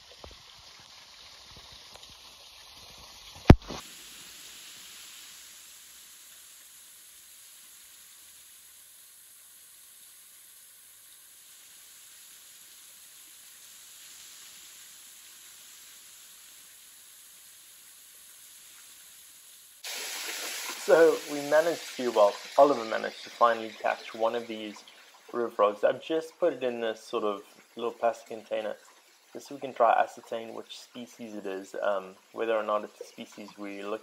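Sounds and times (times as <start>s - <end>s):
waterfall hiss: 0.0s - 34.0s.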